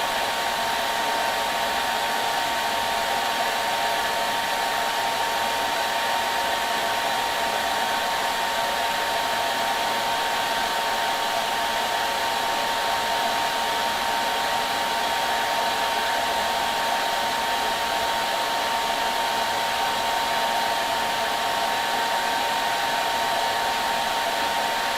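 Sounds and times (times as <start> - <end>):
hair dryer running: 0.0 - 24.9.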